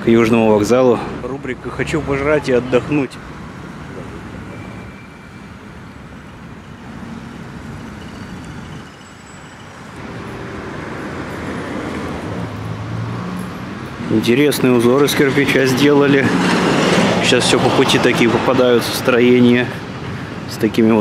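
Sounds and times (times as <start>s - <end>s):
vehicle engine hum: 0.0s - 20.5s
cars passing: 0.0s - 21.0s.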